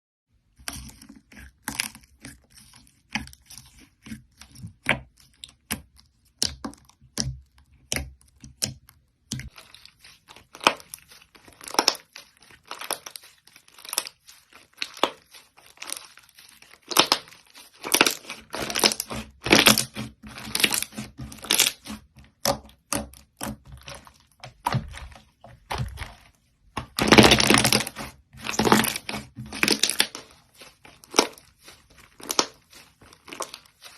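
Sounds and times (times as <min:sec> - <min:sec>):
slime crackling and popping: 0:04.4 - 0:33.9.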